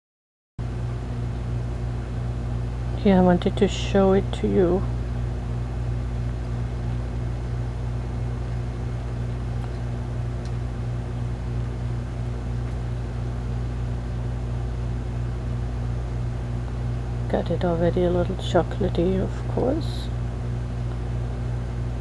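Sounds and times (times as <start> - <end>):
electrical hum with hiss: 0.6 - 22.0.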